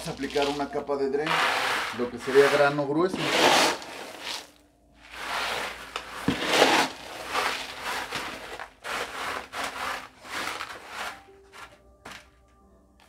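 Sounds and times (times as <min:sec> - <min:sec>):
stones scraping on cardboard: 0:00.0 - 0:00.7, 0:01.3 - 0:12.2
grit poured from plastic scoop: 0:00.0 - 0:11.7.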